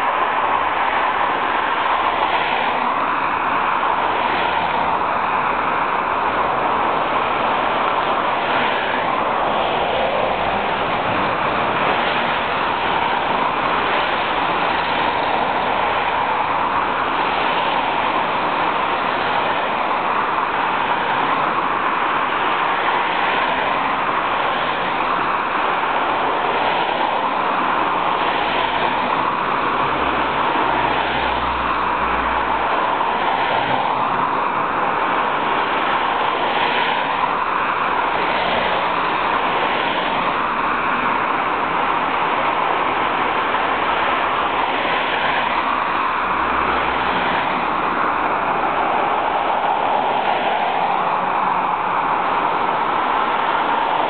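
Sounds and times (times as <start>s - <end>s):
cars passing: 0.0s - 54.0s
road traffic noise: 0.0s - 54.0s.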